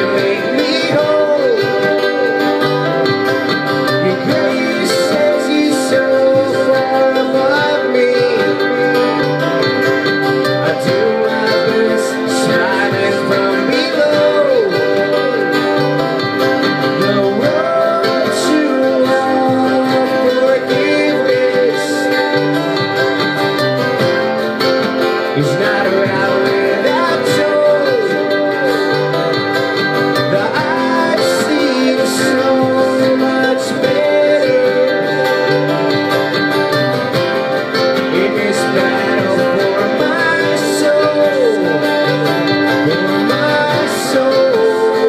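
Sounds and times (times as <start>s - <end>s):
man singing: 0.0s - 23.8s, 25.0s - 36.7s, 37.4s - 45.0s
acoustic guitar: 0.0s - 45.0s.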